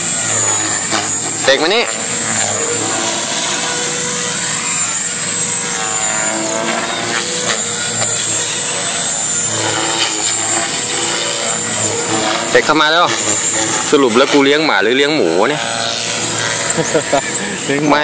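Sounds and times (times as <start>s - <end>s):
model helicopter rotor whine: 0.0s - 18.0s.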